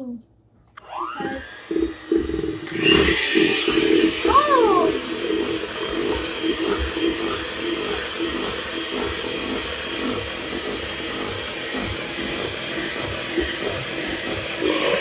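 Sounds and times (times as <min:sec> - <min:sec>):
electric hand mixer whirring: 0:00.8 - 0:15.0.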